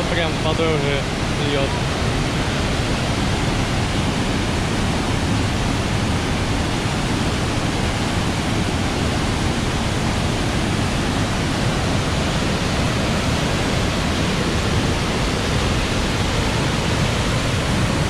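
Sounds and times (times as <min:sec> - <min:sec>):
falling water roar: 0:00.0 - 0:18.0.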